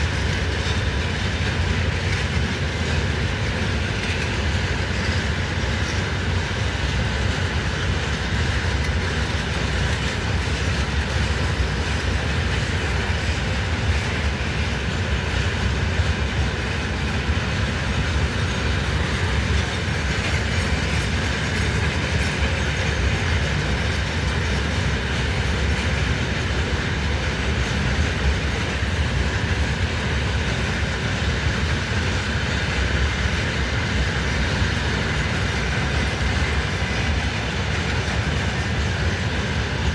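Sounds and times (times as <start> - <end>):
freight train wagons rolling on rails: 0.0 - 39.9.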